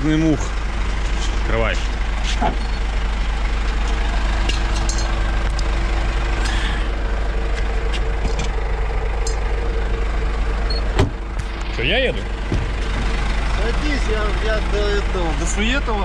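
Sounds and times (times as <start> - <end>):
diesel truck idling: 0.0 - 16.0.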